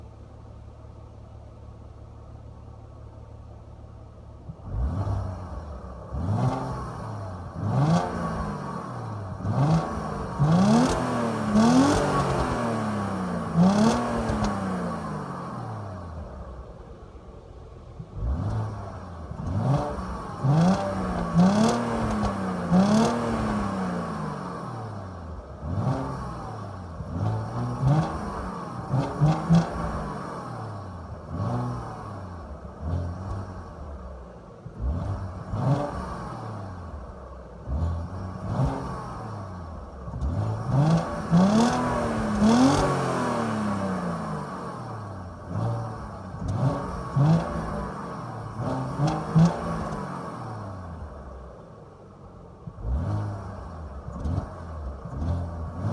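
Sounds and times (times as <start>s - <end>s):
car engine revving: 4.5s - 16.8s, 18.0s - 55.9s.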